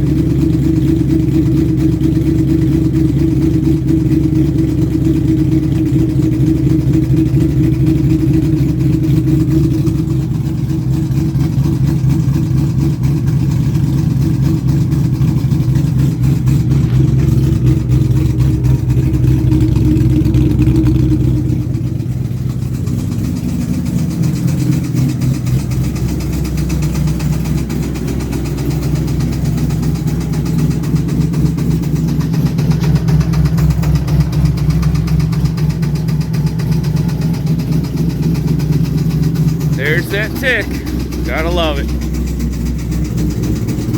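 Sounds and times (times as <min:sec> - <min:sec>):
car engine idling with tick: 0:00.0 - 0:43.9.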